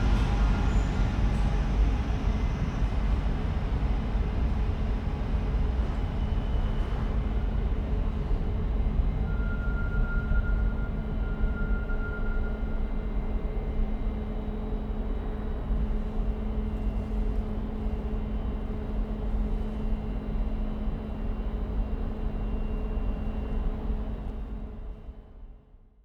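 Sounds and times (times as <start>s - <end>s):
underground train rumble: 0.0s - 25.6s.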